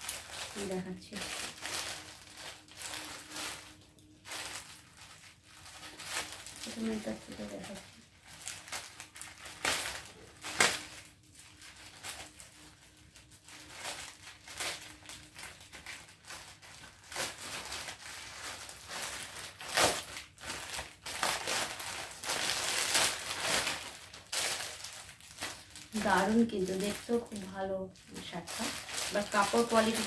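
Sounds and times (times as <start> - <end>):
plastic mailer crinkling: 0.0 - 30.0.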